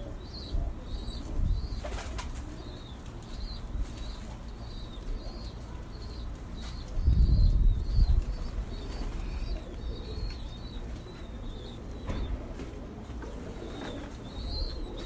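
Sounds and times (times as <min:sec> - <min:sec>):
small birds chirping: 0:00.0 - 0:12.4, 0:13.1 - 0:15.0
pigeons cooing: 0:00.0 - 0:15.0.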